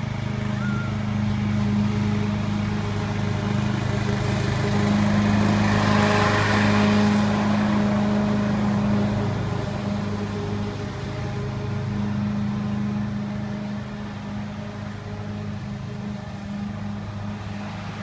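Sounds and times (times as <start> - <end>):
lawn mower engine running: 0.0 - 18.0
mower blade cutting grass: 0.0 - 18.0.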